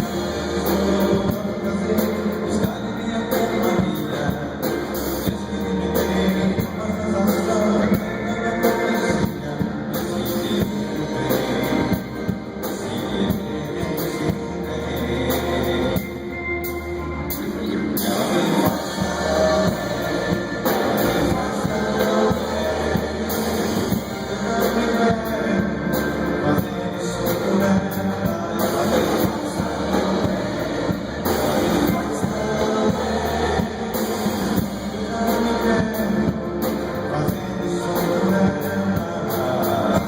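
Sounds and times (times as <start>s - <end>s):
band playing pop-rock song: 0.0s - 40.0s.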